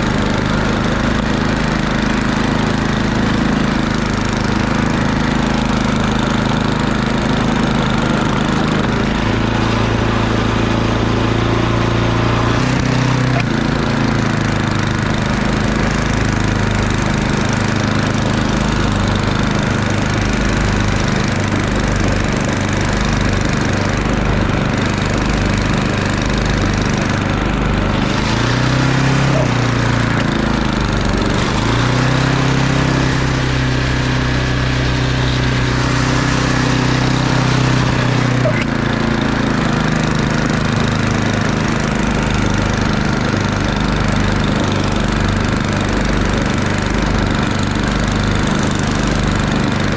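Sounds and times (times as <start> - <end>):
snowblower engine running: 0.0 - 49.9.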